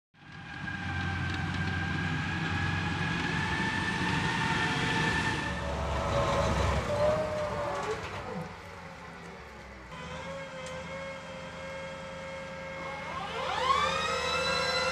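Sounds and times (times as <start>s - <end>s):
tracked vehicle low rumble: 0.2s - 14.9s.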